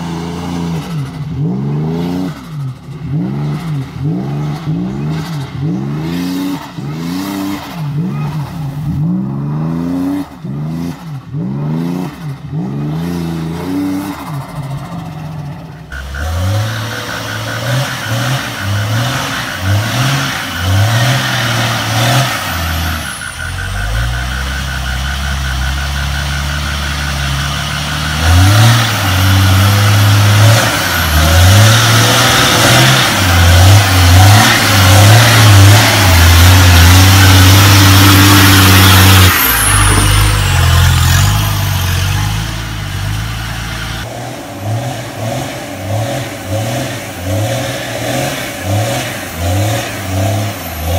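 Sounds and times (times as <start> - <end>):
engine revving hard: 0.0 - 50.9.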